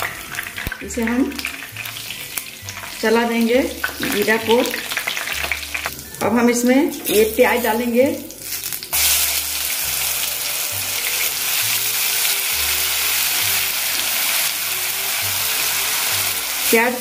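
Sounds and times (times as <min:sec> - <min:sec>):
paste sizzling in hot oil: 0:00.0 - 0:06.1, 0:07.0 - 0:17.0.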